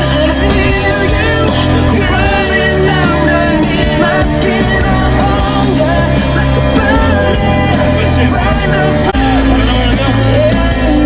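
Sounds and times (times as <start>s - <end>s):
bass line: 0.0s - 11.0s
person singing: 0.0s - 11.0s.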